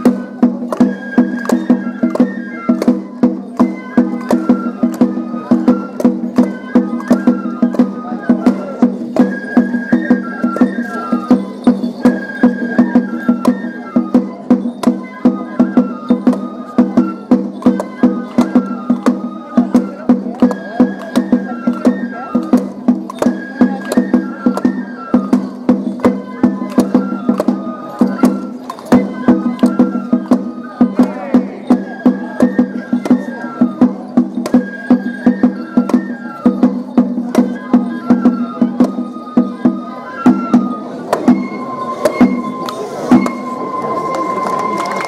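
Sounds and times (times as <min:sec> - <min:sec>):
quick drum beats: 0:00.0 - 0:43.6
bamboo flute melody: 0:00.0 - 0:45.0.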